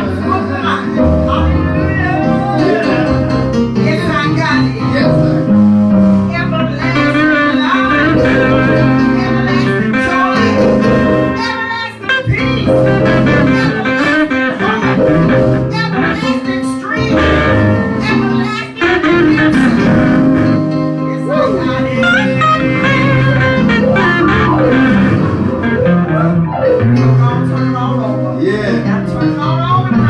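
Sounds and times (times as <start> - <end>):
gospel band with guitar: 0.0 - 30.0.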